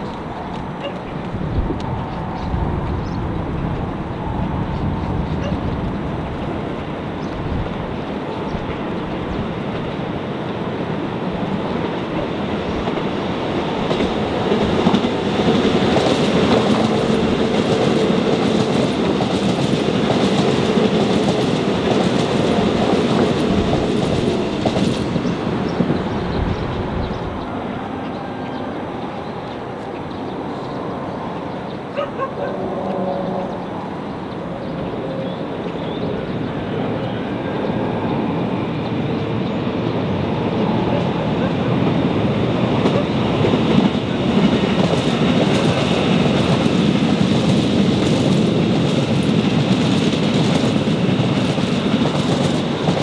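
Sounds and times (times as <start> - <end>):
electric train passing: 0.0 - 53.0.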